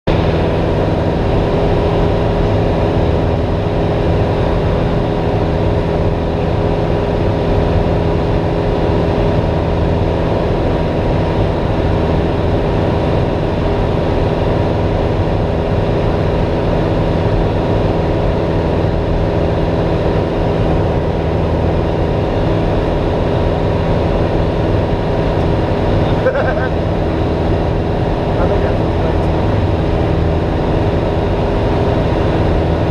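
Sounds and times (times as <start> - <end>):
propeller aircraft engine drone: 0.1 - 32.9.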